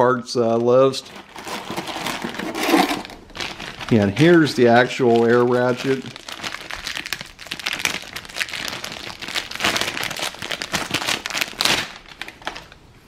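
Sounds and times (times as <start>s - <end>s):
plastic bag crinkling: 1.0s - 12.9s.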